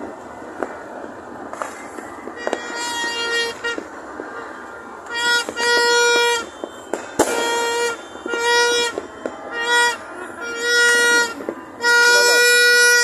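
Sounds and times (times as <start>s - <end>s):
fireworks bangs: 0.0s - 13.0s
party horn blasts: 2.4s - 13.0s.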